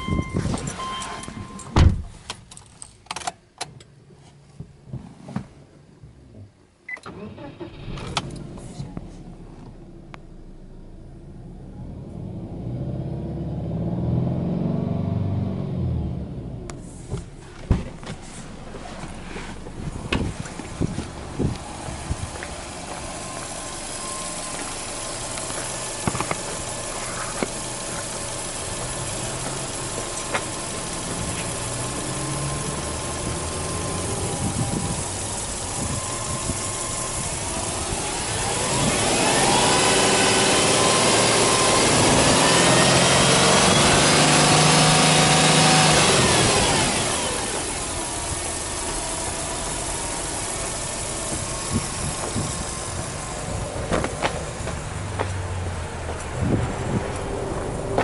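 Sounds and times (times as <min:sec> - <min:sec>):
car engine idling: 0:07.1 - 0:12.7, 0:16.3 - 0:58.0.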